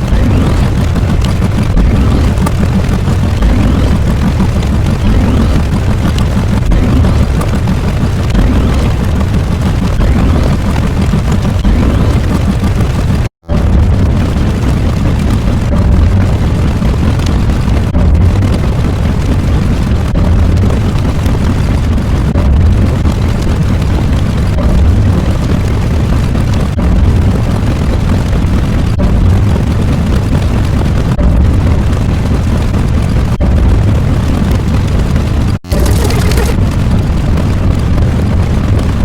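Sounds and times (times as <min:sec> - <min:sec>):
deep explosion-like rumbling: 0:00.0 - 0:39.0.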